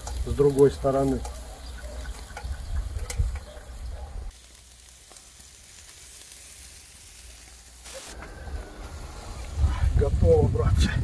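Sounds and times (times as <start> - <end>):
meat sizzling over embers: 0.0 - 11.0.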